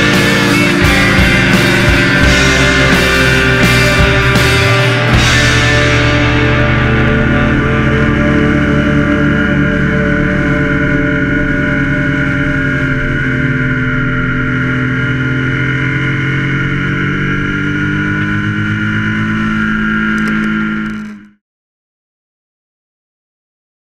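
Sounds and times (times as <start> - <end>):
motorcycle engine cruising: 0.0 - 21.4
road rumble: 0.0 - 21.4.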